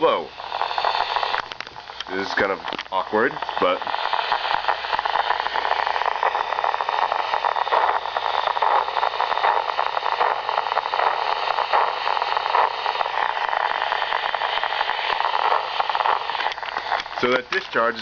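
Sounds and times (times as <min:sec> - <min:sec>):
crackling static from nerve spikes: 0:00.0 - 0:18.0.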